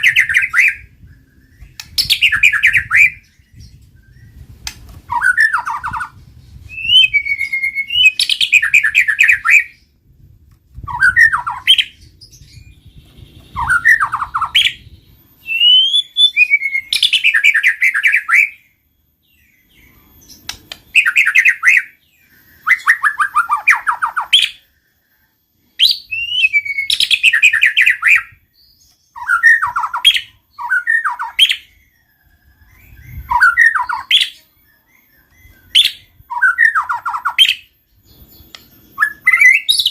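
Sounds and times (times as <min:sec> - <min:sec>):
bird whistles and trills: 0:00.0 - 0:10.0, 0:10.7 - 0:39.9.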